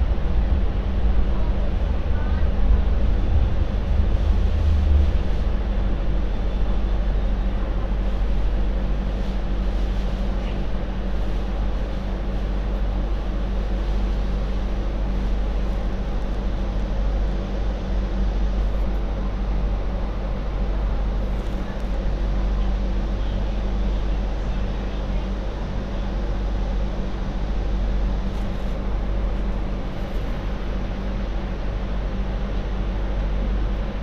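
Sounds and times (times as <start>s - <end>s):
train running on rails: 0.0s - 34.0s.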